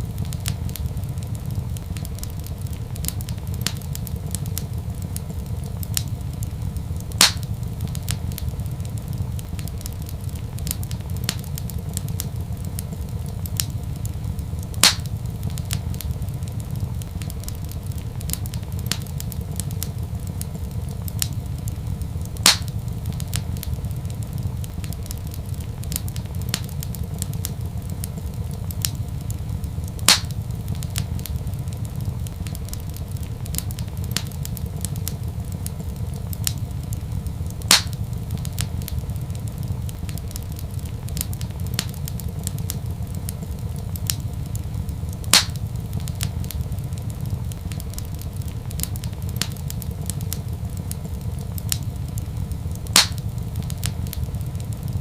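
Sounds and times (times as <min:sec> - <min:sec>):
fire rumbling: 0:00.0 - 0:55.0
loud fire pops: 0:00.0 - 0:55.0
wood fire snapping: 0:00.0 - 0:55.0.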